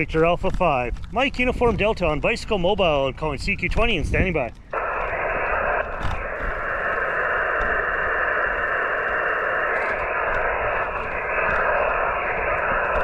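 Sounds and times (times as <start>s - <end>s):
radio band noise hiss: 0.0s - 13.0s.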